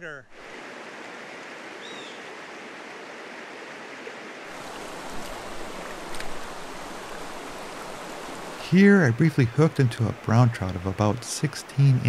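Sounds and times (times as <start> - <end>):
stream rushing over rocks: 0.4 - 12.0.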